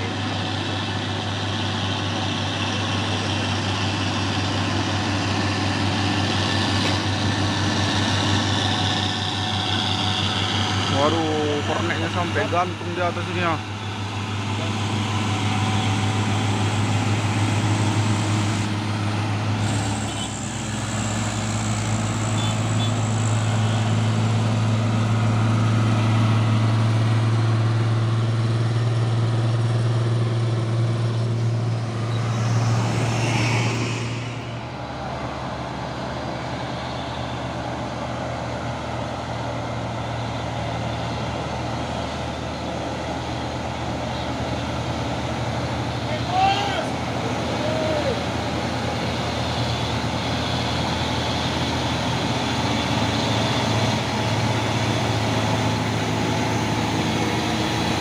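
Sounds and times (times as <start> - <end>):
diesel truck engine droning: 0.0 - 58.0.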